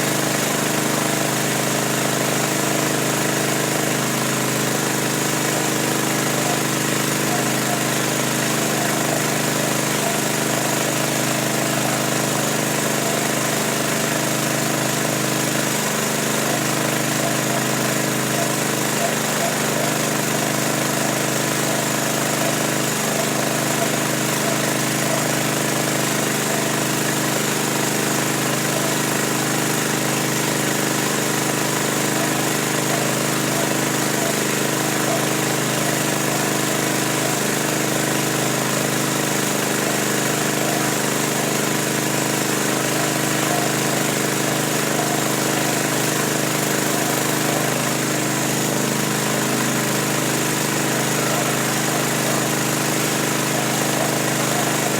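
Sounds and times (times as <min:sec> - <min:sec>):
small motor droning: 0:00.0 - 0:54.9.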